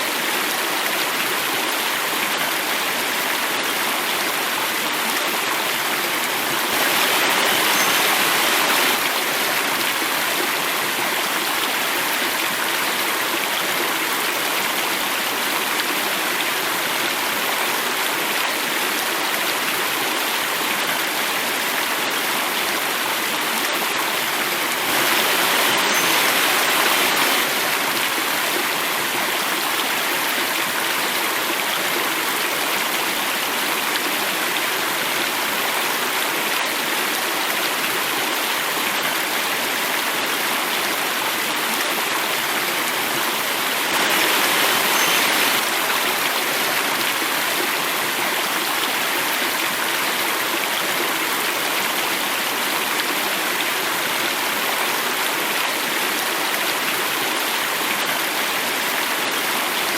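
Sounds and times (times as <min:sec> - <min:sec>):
water rushing in a cascade: 0:00.0 - 0:59.9.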